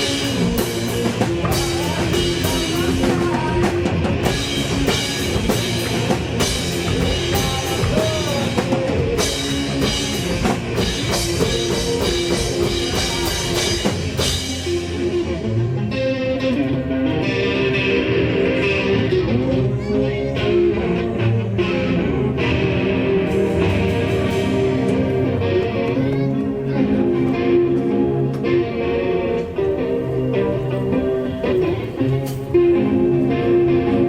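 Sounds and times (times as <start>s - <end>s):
drum kit: 0.0s - 19.6s, 20.4s - 34.0s
electric guitar playing: 0.0s - 34.0s.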